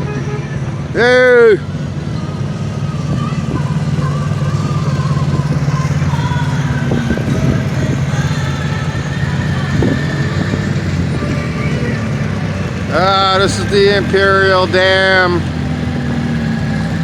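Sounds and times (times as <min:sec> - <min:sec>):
atv engines droning: 0:00.0 - 0:17.0.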